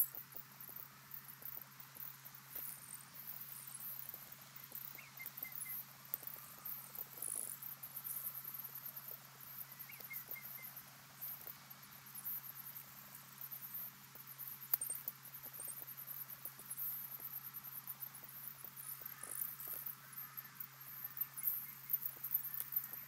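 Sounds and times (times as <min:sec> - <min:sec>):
soft chirps: 0:00.0 - 0:23.0.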